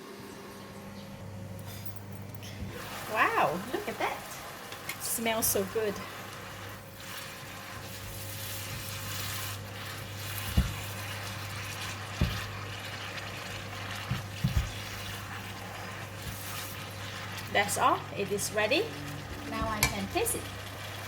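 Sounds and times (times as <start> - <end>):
food sizzling in a pan: 2.7 - 21.0.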